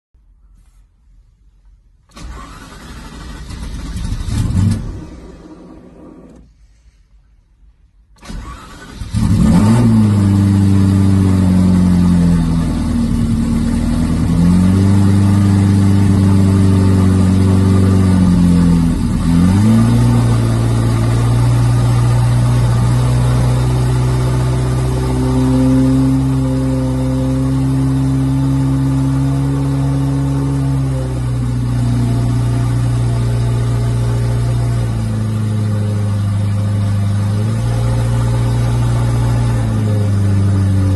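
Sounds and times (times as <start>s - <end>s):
car engine starting and idling: 0.6s - 40.9s.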